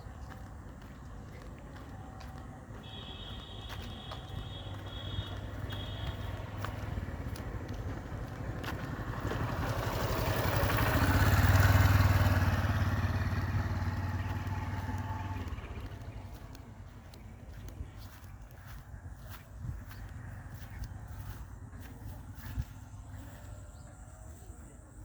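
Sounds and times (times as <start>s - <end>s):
motor vehicle passing by: 0.0s - 25.0s.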